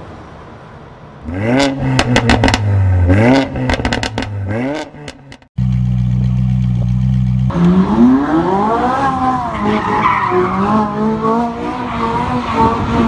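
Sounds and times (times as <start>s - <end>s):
car engine revving: 1.2s - 13.0s.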